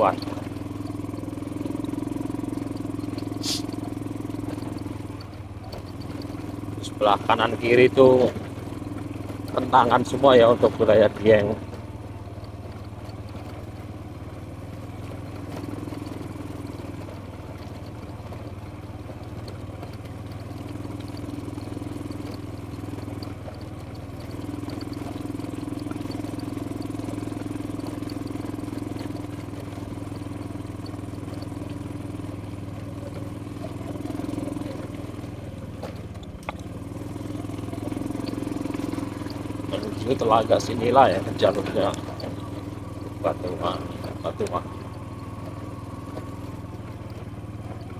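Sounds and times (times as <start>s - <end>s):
motor scooter engine running: 0.0s - 47.9s.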